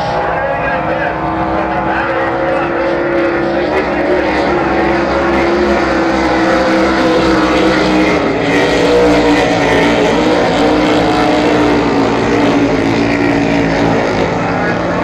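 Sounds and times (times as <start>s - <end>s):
race boat engines droning: 0.0s - 15.0s.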